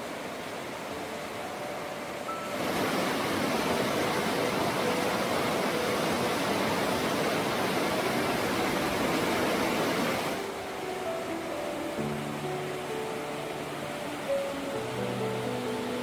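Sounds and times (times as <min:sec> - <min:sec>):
stream and waterfall rushing: 0:00.0 - 0:16.0.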